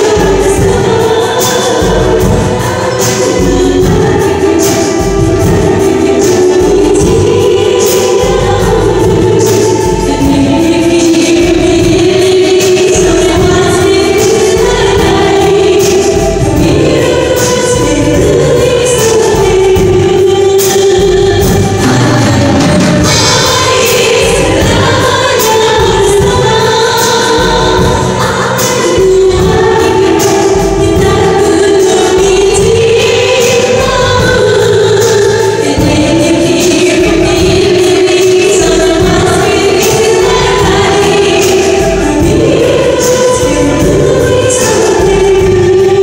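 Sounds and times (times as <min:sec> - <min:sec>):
keyboard: 0:00.0 - 0:46.0
steady drum beat: 0:00.0 - 0:46.0
women singing into microphones: 0:00.0 - 0:46.0.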